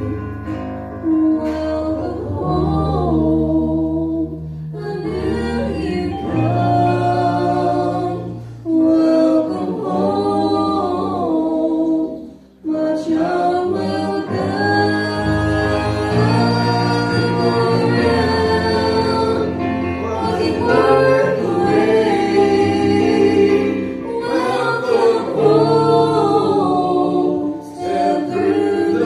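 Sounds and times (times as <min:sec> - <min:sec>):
vocal group singing in harmony: 0:00.0 - 0:29.0.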